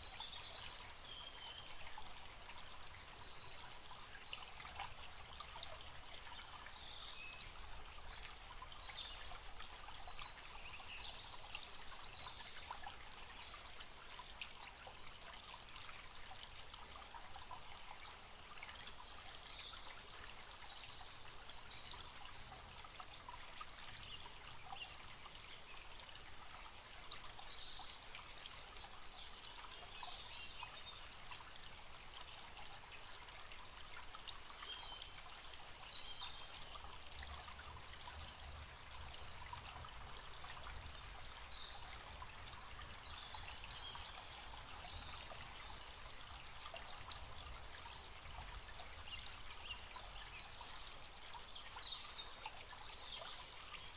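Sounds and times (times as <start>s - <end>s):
stream trickling and babbling: 0.0s - 53.9s.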